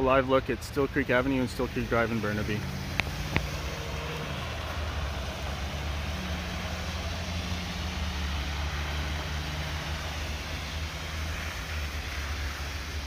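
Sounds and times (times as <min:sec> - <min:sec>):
road noise: 0:00.0 - 0:13.0
vehicle engines humming: 0:00.0 - 0:13.0.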